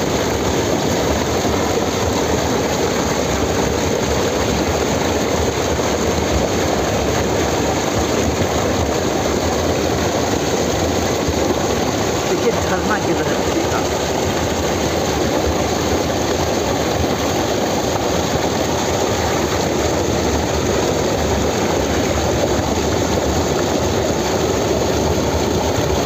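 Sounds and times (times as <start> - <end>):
stream cascading over rocks: 0.0 - 26.0.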